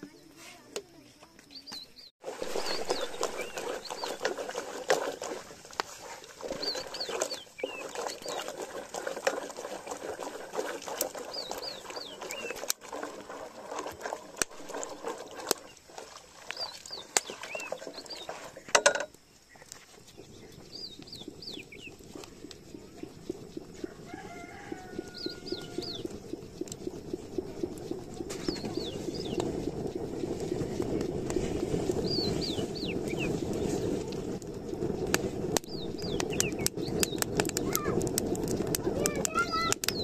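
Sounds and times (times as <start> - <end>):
crackling clattering background: 0.7 - 40.0.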